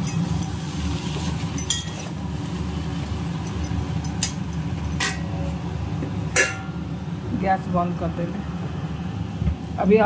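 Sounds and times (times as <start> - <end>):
gas stove burners rumbling: 0.0 - 10.0.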